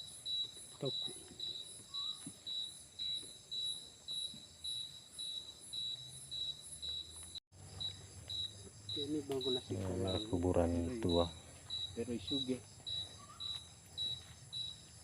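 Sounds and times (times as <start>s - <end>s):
crickets chirping: 0.0s - 15.0s
high insect trill: 0.0s - 15.0s.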